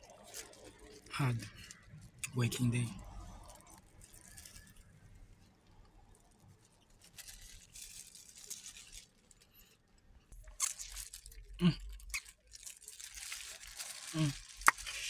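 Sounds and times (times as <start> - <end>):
faint chewing and crunching: 0.0 - 15.0.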